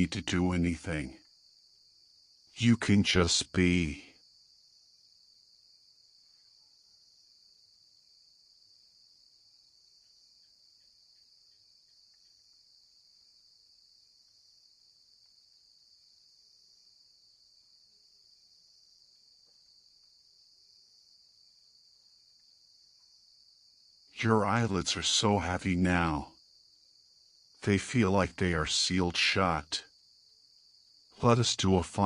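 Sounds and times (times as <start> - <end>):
crickets chirring: 0.0 - 32.0.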